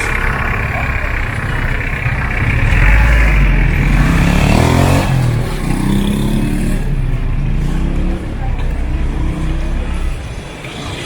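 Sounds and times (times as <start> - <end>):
street noise: 0.0 - 11.0
vehicle engine passing: 0.0 - 11.0.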